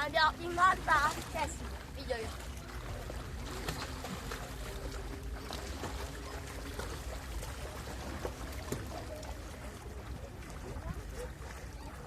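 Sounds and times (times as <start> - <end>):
sea water splashing and lapping: 0.0 - 12.0.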